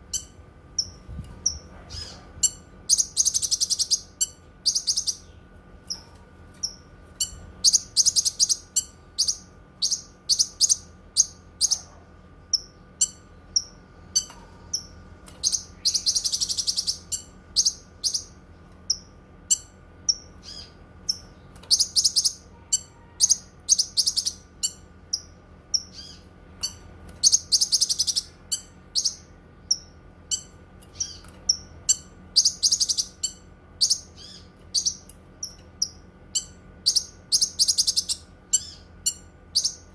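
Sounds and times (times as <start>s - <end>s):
bird chirping and trilling: 0.0s - 39.9s
faint steady hum: 0.0s - 39.9s.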